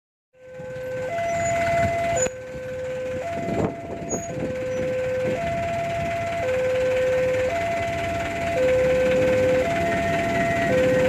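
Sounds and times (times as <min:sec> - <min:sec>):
level crossing two-tone alarm: 0:00.4 - 0:11.0.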